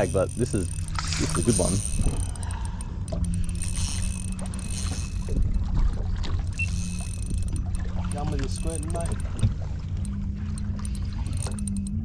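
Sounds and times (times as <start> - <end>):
boat engine rumble with hum: 0.0 - 12.0.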